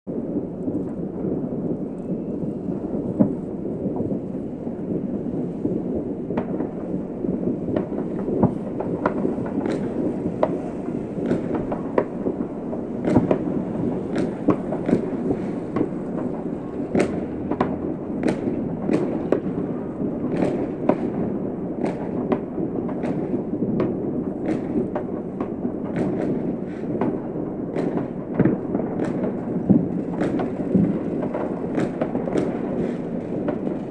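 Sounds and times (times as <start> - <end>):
fireworks booming: 0.1 - 33.9
fireworks cracking and popping: 0.1 - 33.9.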